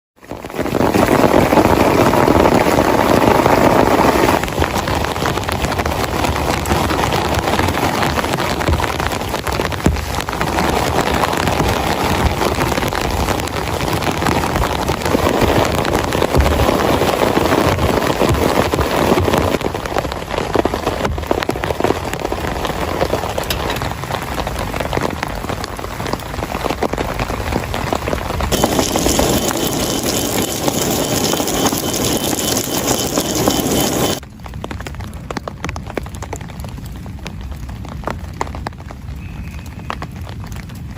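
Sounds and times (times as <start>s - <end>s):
heavy rain falling: 0.2s - 40.9s.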